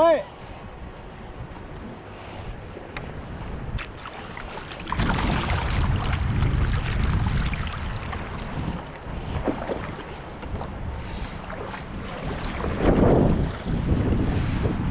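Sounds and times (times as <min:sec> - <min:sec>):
wind noise on microphone: 0:00.0 - 0:14.9
moving river water: 0:01.9 - 0:14.9.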